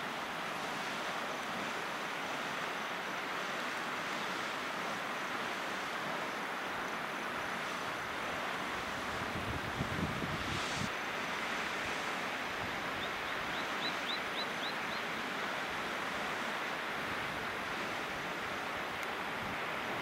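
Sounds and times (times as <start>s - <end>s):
geyser water splashing and boiling: 0.0s - 20.0s.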